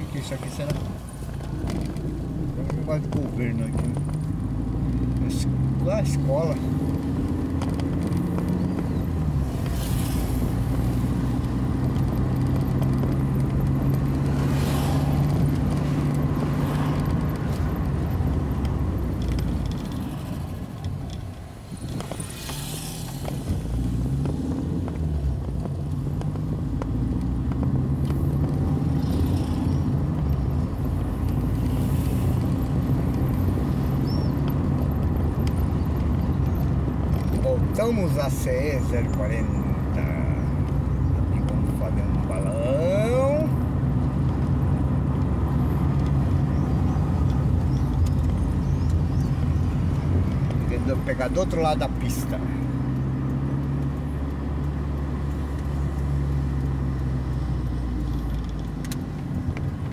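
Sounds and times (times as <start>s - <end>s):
car engine: 0.0s - 59.9s
road noise: 0.0s - 59.9s.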